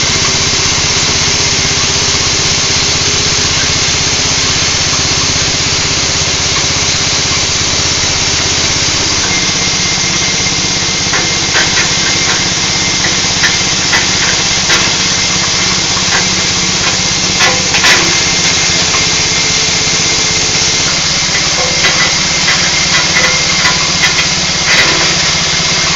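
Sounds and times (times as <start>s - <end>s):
feed chopper motor running: 0.0s - 25.9s.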